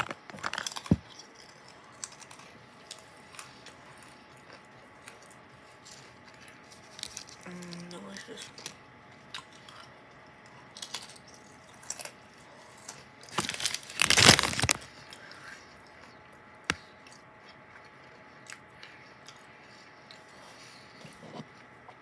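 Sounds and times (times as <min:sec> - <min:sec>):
crunching crackers: 0:00.0 - 0:21.0.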